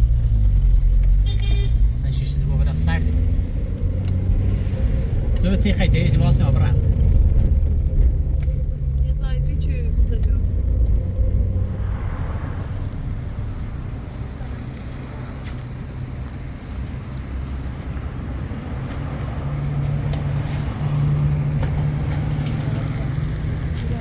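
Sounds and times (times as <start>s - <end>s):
low motor rumble with hum: 0.0s - 24.0s.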